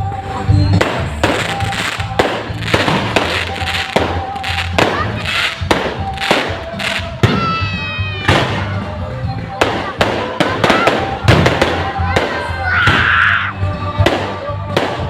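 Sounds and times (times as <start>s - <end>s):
music playing: 0.0s - 15.0s
fireworks banging: 0.5s - 13.1s, 14.0s - 15.0s.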